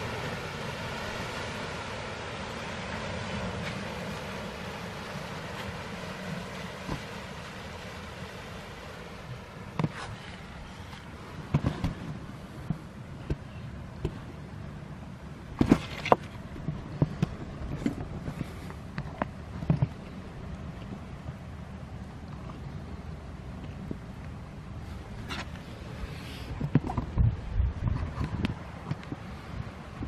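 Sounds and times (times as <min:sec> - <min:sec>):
water rushing between rocks: 0:00.0 - 0:30.0.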